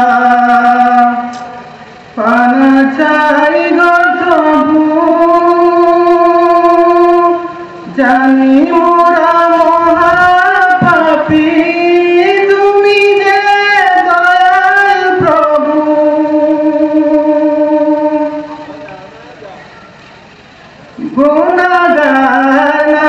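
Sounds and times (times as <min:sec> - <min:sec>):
man singing into a microphone: 0:00.0 - 0:01.6, 0:02.2 - 0:18.7, 0:21.0 - 0:23.0.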